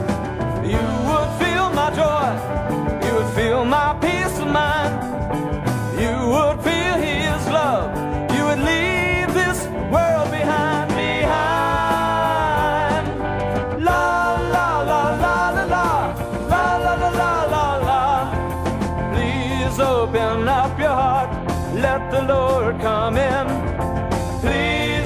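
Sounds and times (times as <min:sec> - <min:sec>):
bass: 0:00.0 - 0:25.0
drums: 0:00.0 - 0:25.0
gospel band music: 0:00.0 - 0:25.0.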